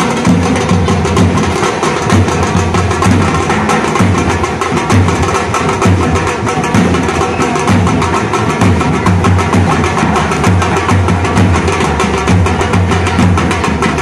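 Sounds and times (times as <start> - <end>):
drum band playing: 0.0 - 14.0.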